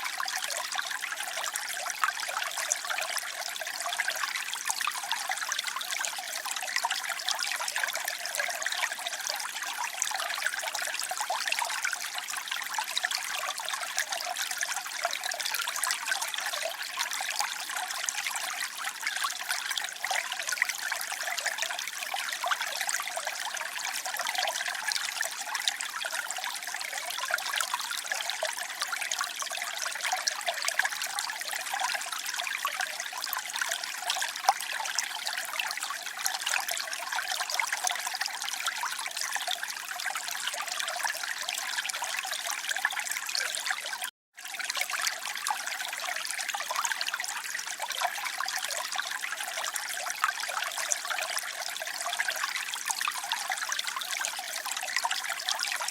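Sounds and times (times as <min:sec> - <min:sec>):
water trickling and splashing: 0:00.0 - 0:55.9.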